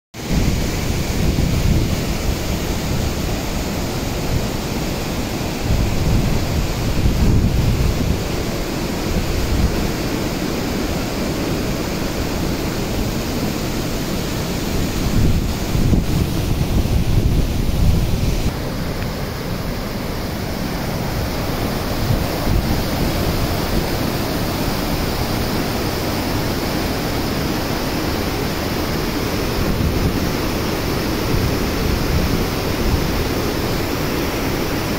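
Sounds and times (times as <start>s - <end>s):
wind buffeting microphone: 0.2s - 10.1s, 11.8s - 18.6s, 21.0s - 27.1s, 28.4s - 34.9s
waterfall and river rushing: 0.2s - 34.9s.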